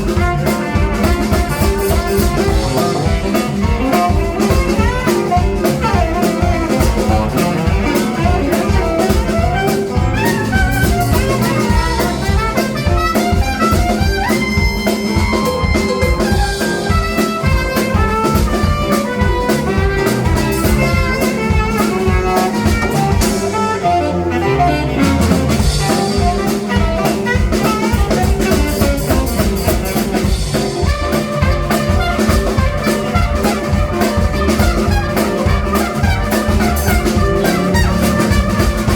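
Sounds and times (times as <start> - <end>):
blues band playing instrumental: 0.0 - 38.9
drum kit beat: 0.0 - 38.9.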